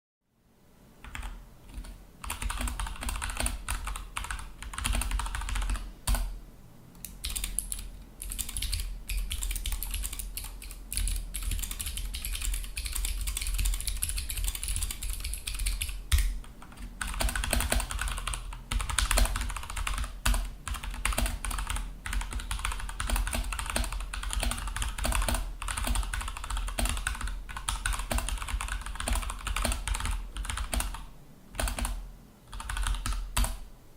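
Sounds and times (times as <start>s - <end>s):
mechanical keyboard typing: 1.0s - 6.3s, 7.0s - 33.6s.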